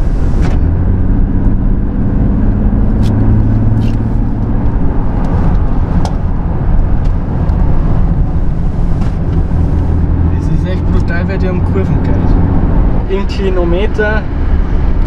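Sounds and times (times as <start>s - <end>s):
diesel engine drone: 0.0s - 15.0s
low road rumble: 0.0s - 15.0s.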